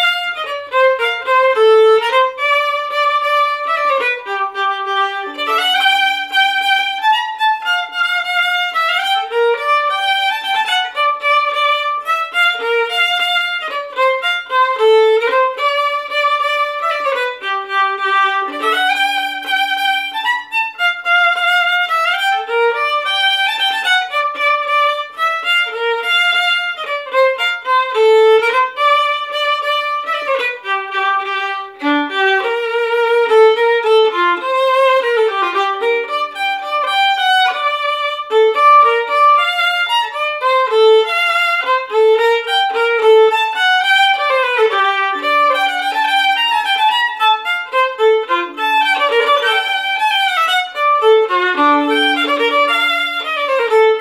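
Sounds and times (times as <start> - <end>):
solo violin fiddle tune: 0.0 - 54.0.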